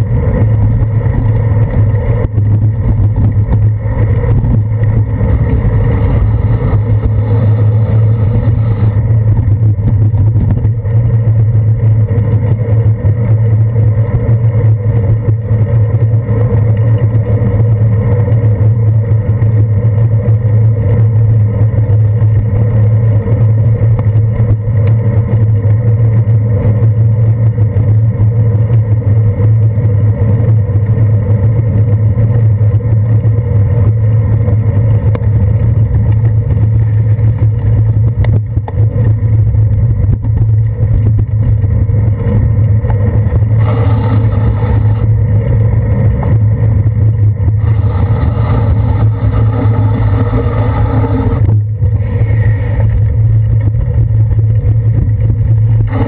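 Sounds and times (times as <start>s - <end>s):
road vibration rumble: 0.0s - 56.0s
wind on camera: 0.0s - 56.0s.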